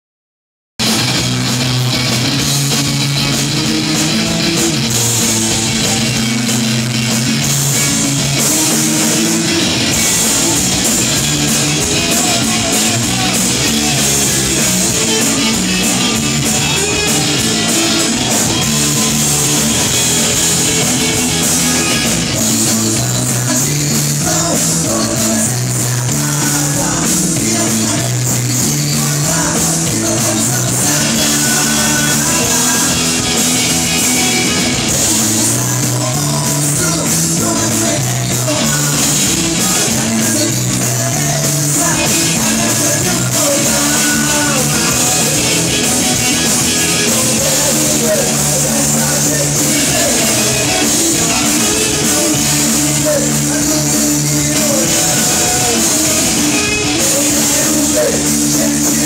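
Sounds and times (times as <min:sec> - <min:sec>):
bass line: 0:00.8 - 0:59.0
electric guitars: 0:00.8 - 0:59.0
live rock band: 0:00.8 - 0:59.0.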